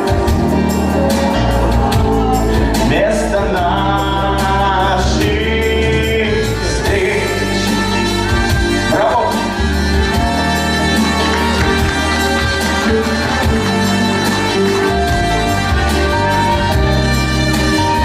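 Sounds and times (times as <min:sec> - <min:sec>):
pop song with singing: 0:00.0 - 0:16.9.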